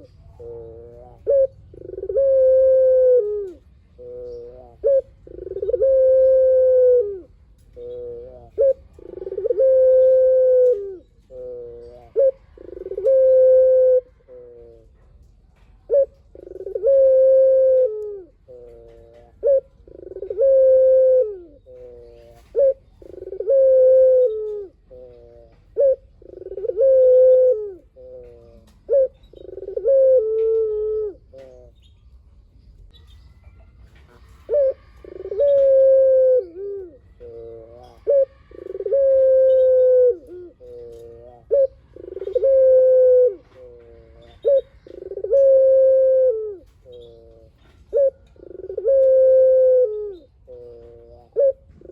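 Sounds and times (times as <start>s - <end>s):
collared dove cooing: 0.0s - 15.1s, 15.8s - 31.9s, 33.0s - 51.9s.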